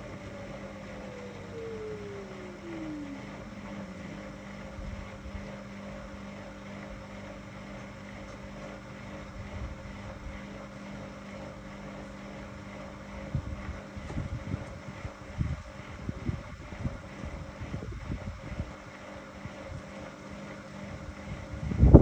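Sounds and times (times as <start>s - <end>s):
washing machine low hum: 0.0s - 22.0s
washing machine motor whine: 0.0s - 22.0s.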